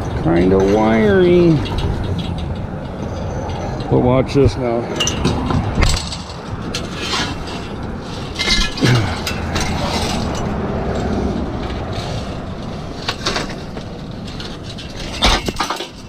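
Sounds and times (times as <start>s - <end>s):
scrap metal clinking and scraping: 0.0s - 16.0s.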